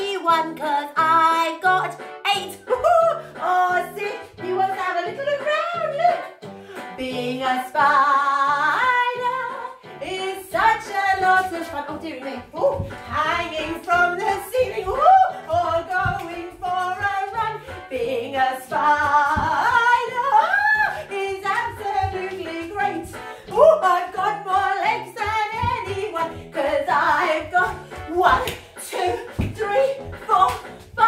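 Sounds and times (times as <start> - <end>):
woman singing children's song: 0.0 - 31.0.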